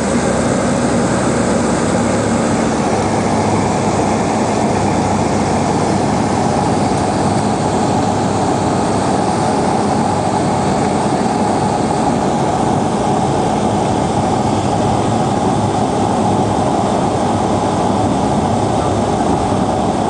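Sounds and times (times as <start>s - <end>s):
propeller plane engine drone: 0.0s - 20.0s
wind: 0.0s - 20.0s.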